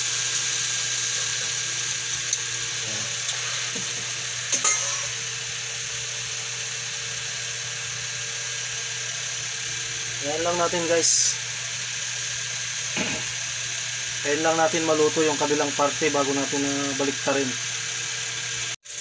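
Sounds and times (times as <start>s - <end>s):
chicken sizzling in a wok: 0.0s - 19.0s.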